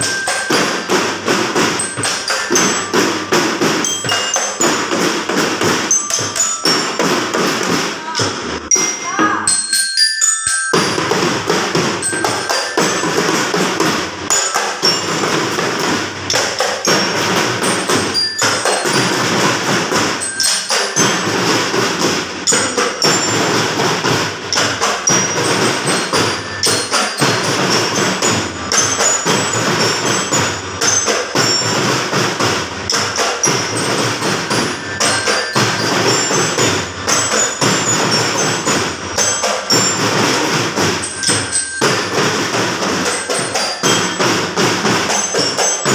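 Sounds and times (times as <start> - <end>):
drum strokes: 0.0 - 45.9
glockenspiel-like bell melody: 0.0 - 45.9.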